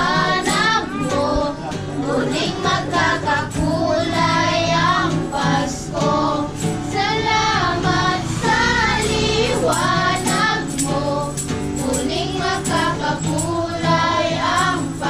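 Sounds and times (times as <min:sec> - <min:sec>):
children and adults singing: 0:00.0 - 0:15.0
strummed acoustic guitar: 0:00.0 - 0:15.0.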